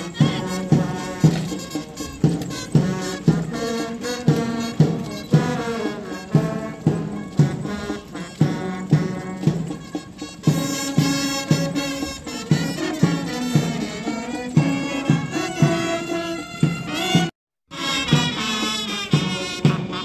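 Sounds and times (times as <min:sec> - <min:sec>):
brass band playing a march: 0:00.0 - 0:20.0
steady drum beat: 0:00.0 - 0:20.0.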